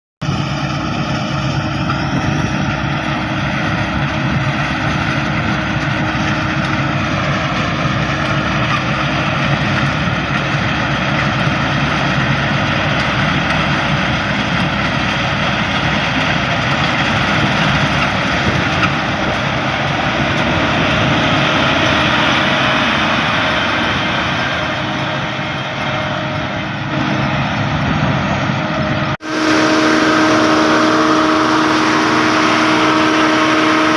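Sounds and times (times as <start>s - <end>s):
combine harvester running: 0.2s - 33.9s.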